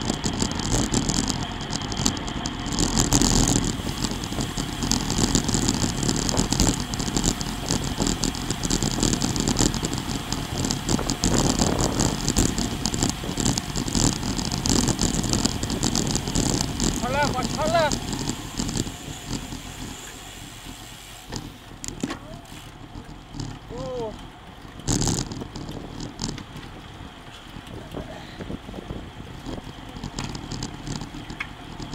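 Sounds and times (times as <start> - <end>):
wind rushing over microphone: 0.0 - 20.8, 24.9 - 31.9
bicycle tyre road noise: 0.0 - 31.9.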